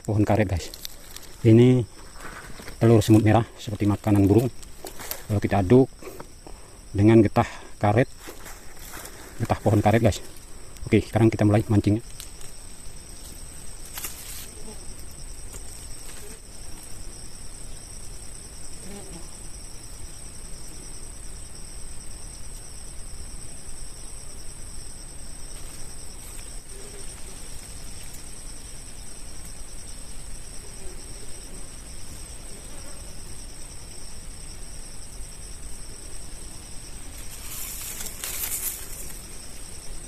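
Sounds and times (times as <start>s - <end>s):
high-pitched insect drone: 0.1s - 40.0s.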